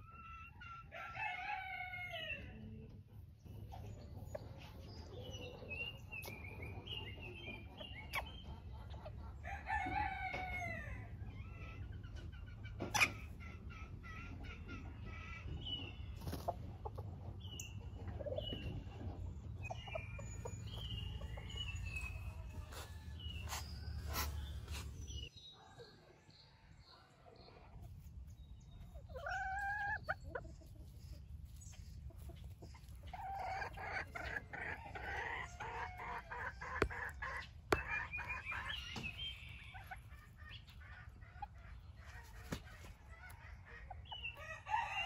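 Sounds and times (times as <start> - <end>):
hens clucking and chirping: 0.0 - 45.0.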